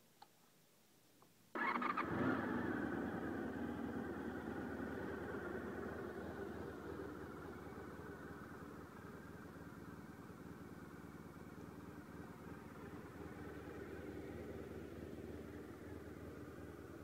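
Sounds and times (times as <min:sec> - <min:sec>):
motorcycle engine idling: 0:01.6 - 0:17.0.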